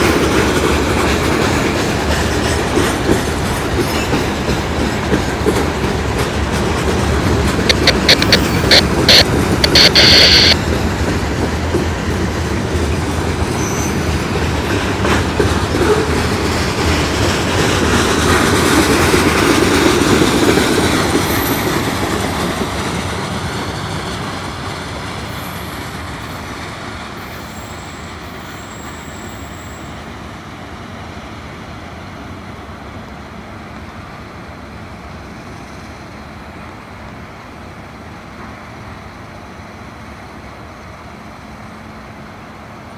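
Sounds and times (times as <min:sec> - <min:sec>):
freight train cars rolling past: 0:00.0 - 0:42.9.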